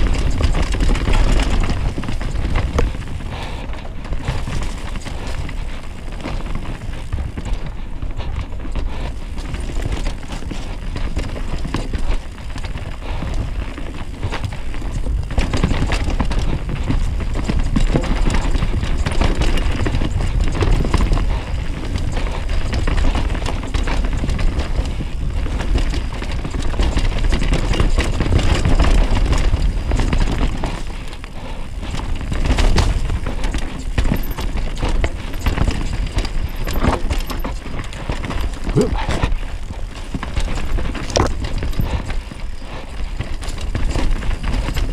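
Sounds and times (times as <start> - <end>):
bike rattling and knocking: 0.0 - 44.9
tyres on dirt: 0.0 - 44.9.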